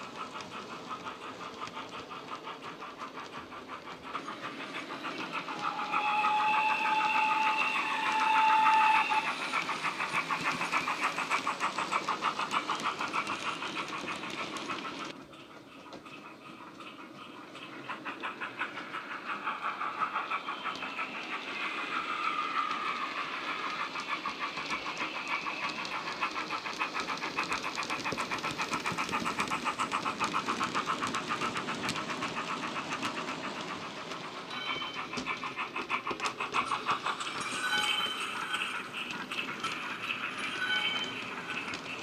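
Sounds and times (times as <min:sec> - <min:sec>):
model steam engine chuffs: 0:00.0 - 0:42.0.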